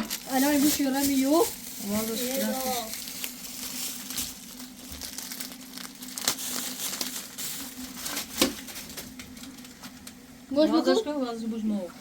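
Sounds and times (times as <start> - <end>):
plastic crackles: 0.0 - 10.2
plastic wrapping crinkling: 0.0 - 10.2.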